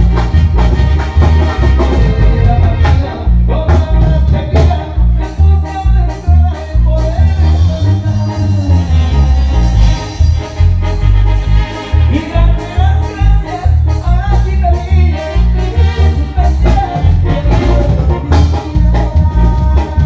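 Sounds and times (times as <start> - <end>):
live band music: 0.0 - 20.0
person singing: 1.8 - 10.4, 12.0 - 20.0.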